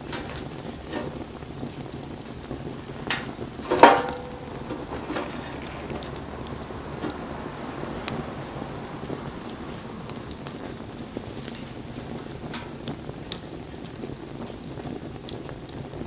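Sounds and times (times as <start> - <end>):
sharp crack of fire: 0.0 - 16.0
wood bonfire crackling: 0.0 - 16.0.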